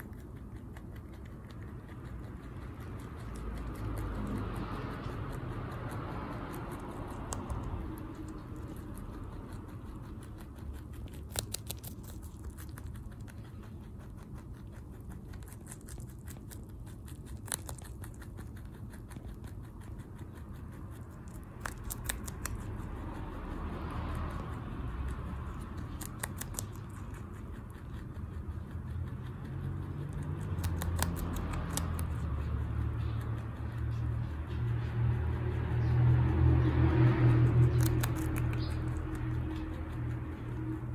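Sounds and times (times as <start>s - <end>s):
rabbit chewing crunchy vegetable: 0.0s - 40.9s.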